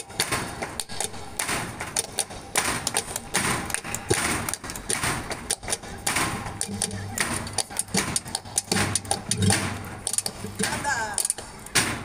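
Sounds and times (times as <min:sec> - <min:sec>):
heel and toe stamps on boards: 0:00.0 - 0:12.0.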